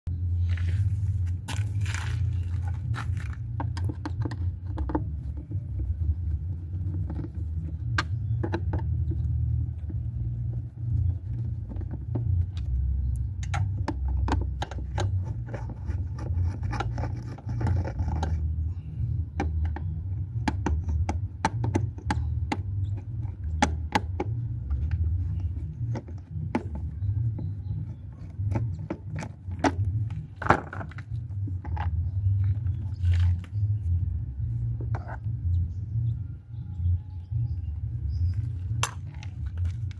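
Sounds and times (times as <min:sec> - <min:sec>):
steady low rumble: 0:00.1 - 0:39.9.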